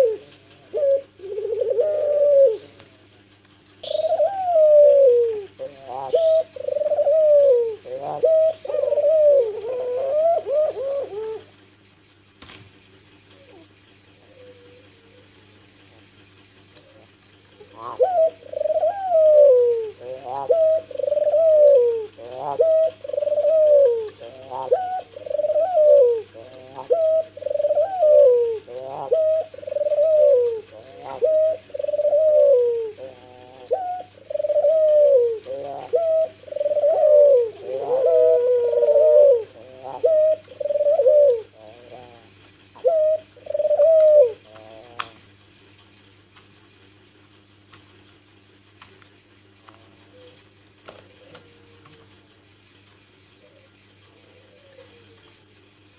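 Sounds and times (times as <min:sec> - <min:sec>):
dove cooing: 0:00.0 - 0:11.8, 0:13.0 - 0:45.3, 0:49.6 - 0:52.2, 0:53.3 - 0:55.6.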